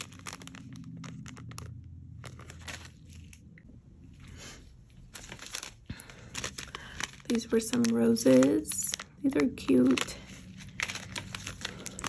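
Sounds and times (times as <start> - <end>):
plastic packets crinkling: 0.0 - 3.5, 4.9 - 12.0.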